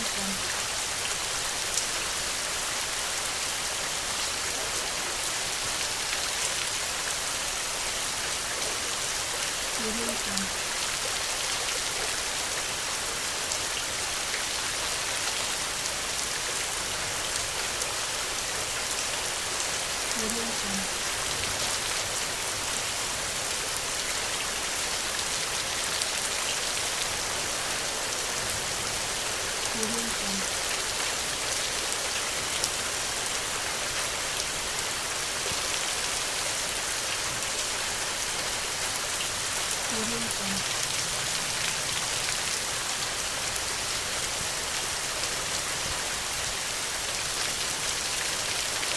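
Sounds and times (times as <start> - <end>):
raindrops ticking on a surface: 0.0 - 48.9
steady rain hiss: 0.0 - 48.9.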